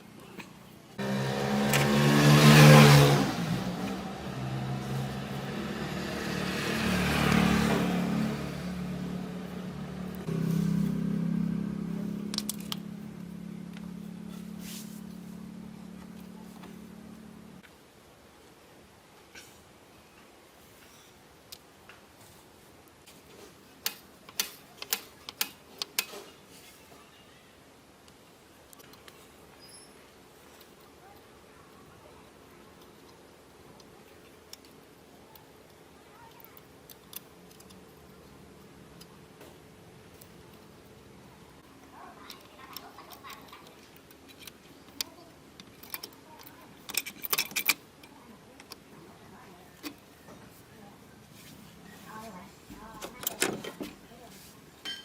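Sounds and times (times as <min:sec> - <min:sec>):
faint steady background noise: 0:00.0 - 0:55.0.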